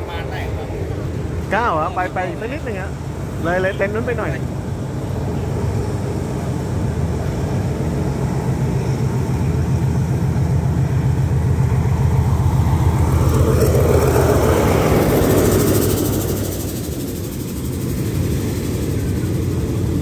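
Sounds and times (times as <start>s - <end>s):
diesel locomotive engine drone: 0.0s - 20.0s
train wheels on rails: 0.0s - 20.0s.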